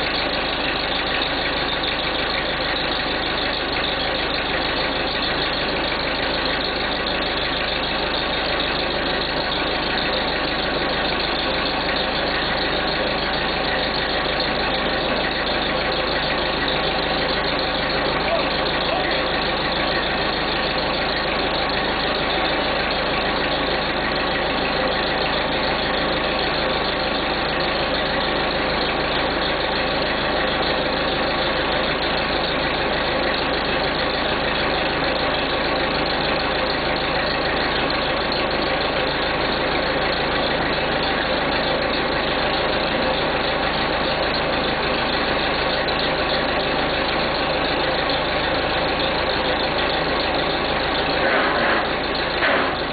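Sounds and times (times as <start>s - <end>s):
diesel engine idling: 0.0s - 52.9s.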